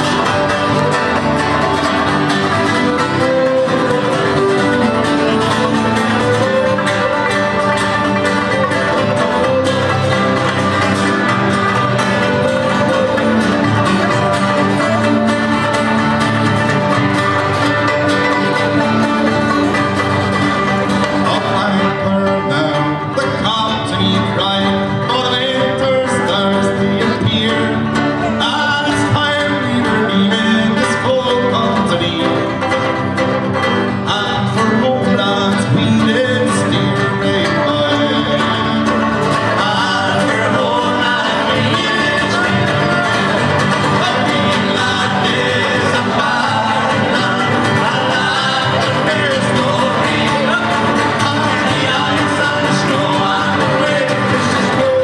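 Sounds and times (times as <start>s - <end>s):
acoustic folk band playing: 0.0s - 55.0s.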